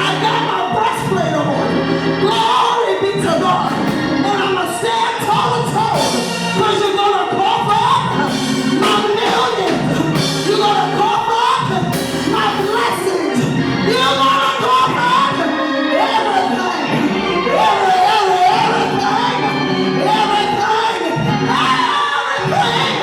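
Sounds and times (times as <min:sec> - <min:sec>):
sustained instrument chords: 0:00.0 - 0:02.5, 0:03.1 - 0:23.0
person singing gospel: 0:00.0 - 0:23.0.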